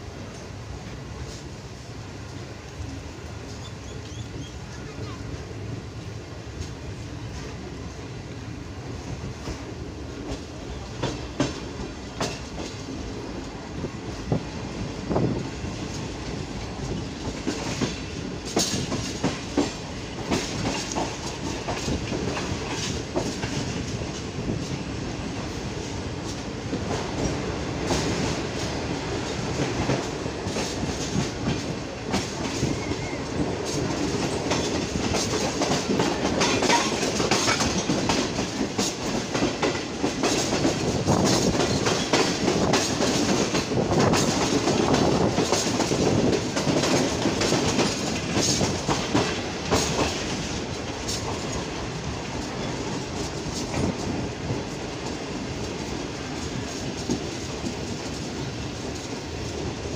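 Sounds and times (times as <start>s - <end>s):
clickety-clack of rail joints: 0.0s - 59.9s
train wheels rumbling on rails: 0.0s - 59.9s.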